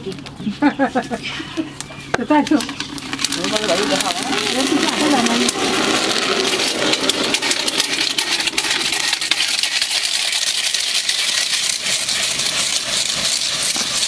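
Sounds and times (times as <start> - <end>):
rice grains popping: 1.5 - 14.0
sand rattling while stirred: 1.5 - 14.0.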